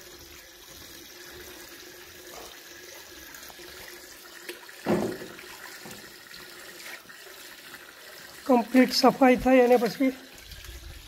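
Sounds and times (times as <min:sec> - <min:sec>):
tap water running into basin: 0:00.0 - 0:11.0.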